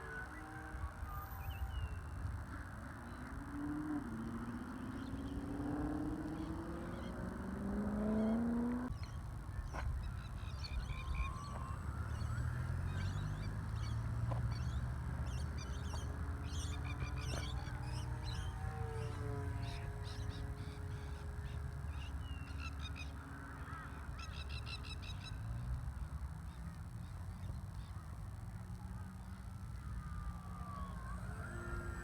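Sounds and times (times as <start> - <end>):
model plane motor whining: 0.0 - 8.2, 9.9 - 24.1, 28.7 - 32.0.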